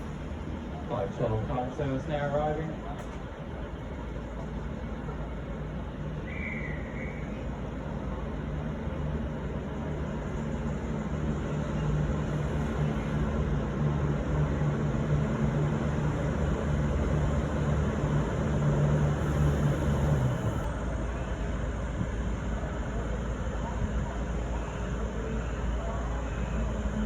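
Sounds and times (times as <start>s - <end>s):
diesel train engine drone: 0.0s - 27.0s.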